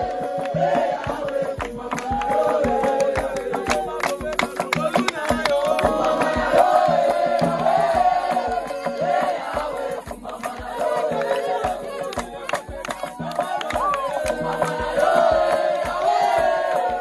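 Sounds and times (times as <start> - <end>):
group singing gospel song: 0.0 - 17.0
rhythmic hand-clapping: 0.0 - 17.0.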